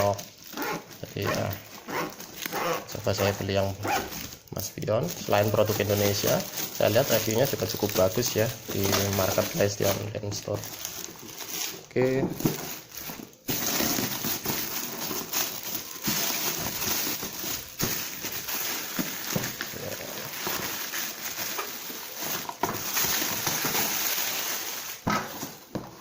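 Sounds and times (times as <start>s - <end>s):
packaging rustling and crinkling: 0.0s - 26.0s.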